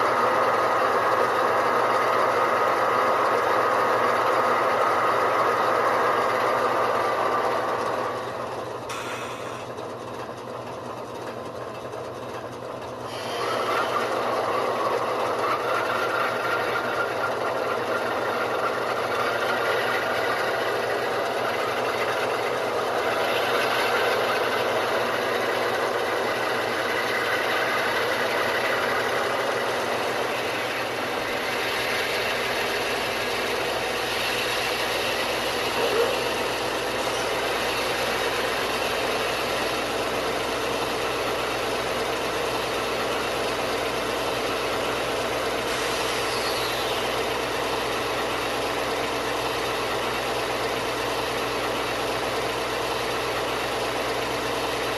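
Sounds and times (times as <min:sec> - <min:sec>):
diesel locomotive engine through small speakers: 0:00.0 - 0:54.9.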